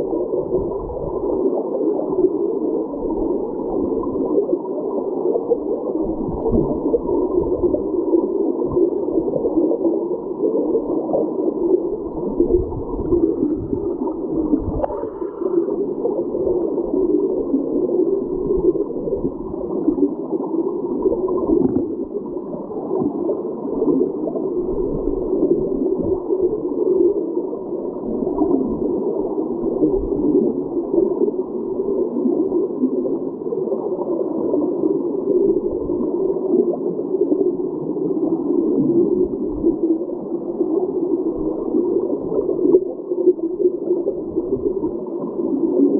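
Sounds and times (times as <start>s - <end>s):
muffled underwater water rushing: 0.0s - 45.9s.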